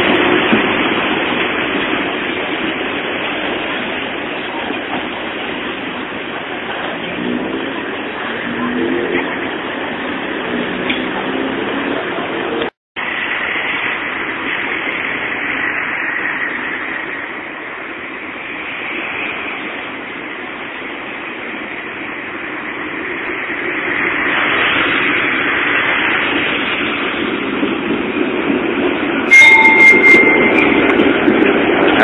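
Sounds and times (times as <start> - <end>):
street traffic noise: 0.0 - 32.0.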